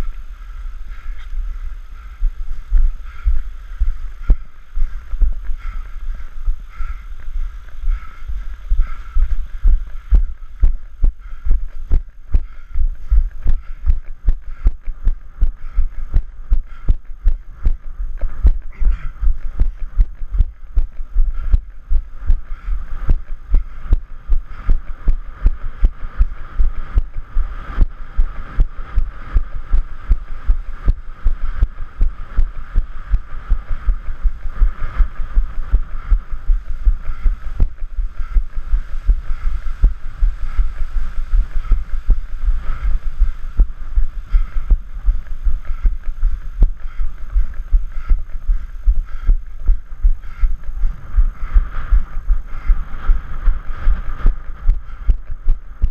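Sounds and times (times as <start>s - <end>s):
running footsteps on dirt path: 0.0s - 55.9s.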